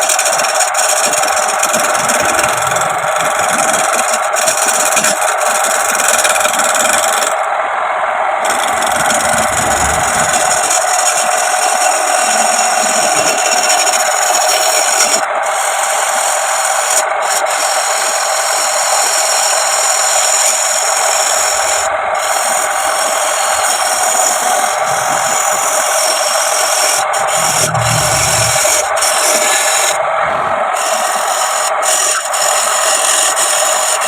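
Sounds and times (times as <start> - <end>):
tool rasping on spinning wood: 0.0 - 7.5, 8.4 - 30.0, 30.6 - 34.0.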